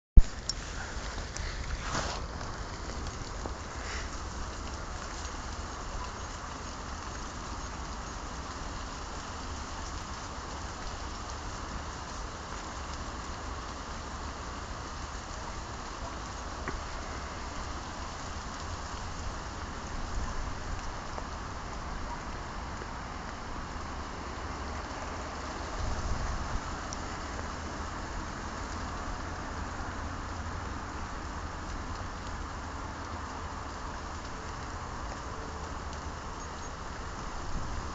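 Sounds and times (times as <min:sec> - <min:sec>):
rustle in grass: 0:00.2 - 0:37.9
wind hiss on microphone: 0:00.2 - 0:37.9.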